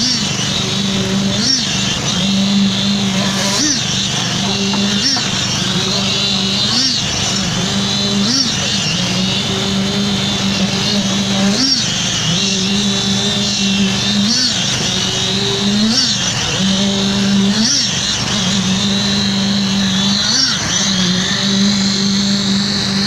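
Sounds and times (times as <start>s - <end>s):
concrete vibrator humming: 0.0s - 23.0s.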